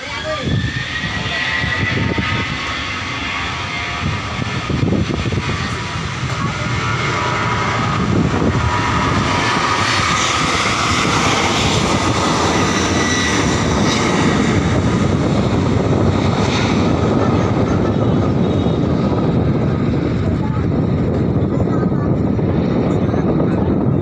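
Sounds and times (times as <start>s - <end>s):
jet engines rushing with whine: 0.0s - 24.0s.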